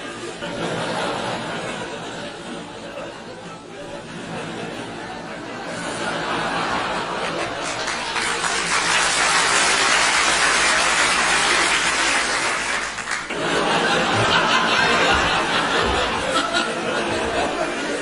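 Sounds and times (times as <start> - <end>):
crowd laughing and clapping: 0.0 - 18.0.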